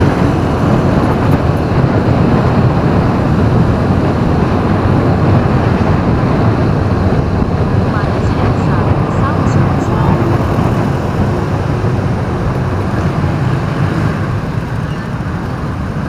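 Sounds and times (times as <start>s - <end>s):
vehicle engine and tyre noise: 0.0s - 16.0s.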